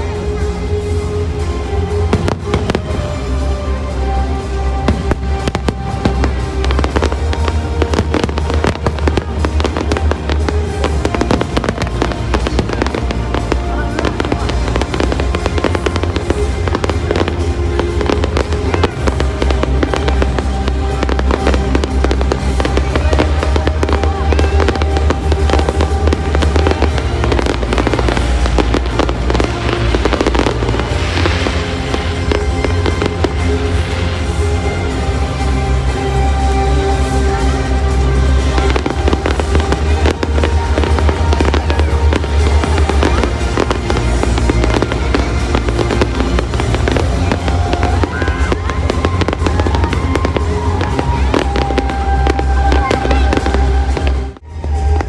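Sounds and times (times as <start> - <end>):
deep rumble: 0.0 - 55.0
fireworks bangs and crackles: 0.0 - 55.0
music: 0.0 - 55.0.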